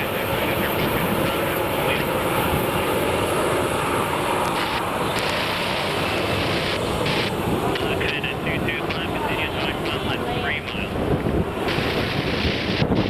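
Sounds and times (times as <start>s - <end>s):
jet engines at taxi power: 0.0s - 13.0s.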